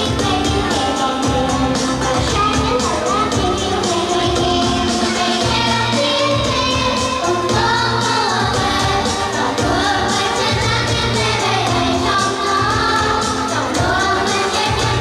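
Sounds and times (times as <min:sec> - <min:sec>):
instrumental backing track with beat: 0:00.0 - 0:15.0
person singing: 0:00.0 - 0:15.0.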